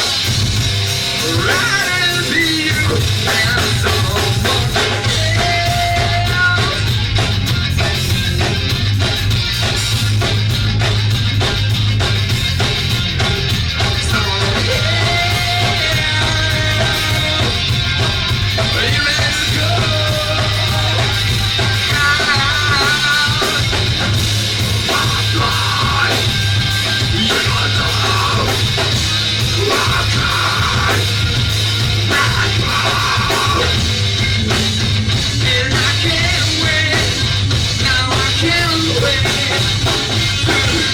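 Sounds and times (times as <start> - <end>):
drum kit beat: 0.0 - 40.9
rock band playing live: 0.0 - 40.9.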